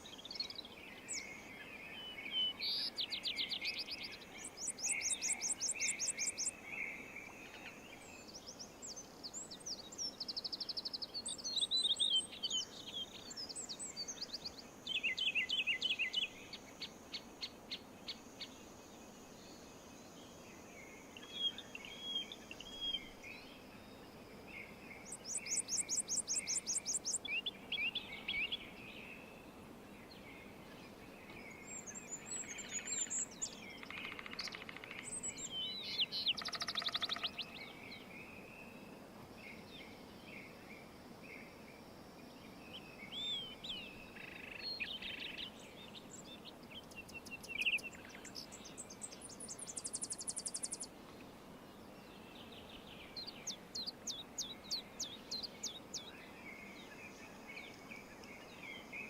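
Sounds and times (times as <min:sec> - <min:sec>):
low hiss of outdoor background: 0:00.0 - 0:59.0
songbirds singing and calling: 0:00.0 - 0:59.0.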